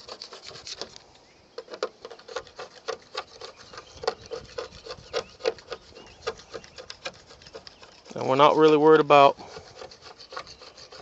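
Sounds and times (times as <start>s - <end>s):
razor blade scraping paint: 0.0s - 11.0s.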